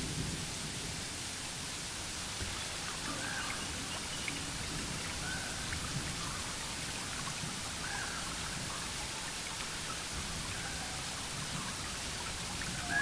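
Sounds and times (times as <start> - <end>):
rain-like hiss: 0.0 - 13.0.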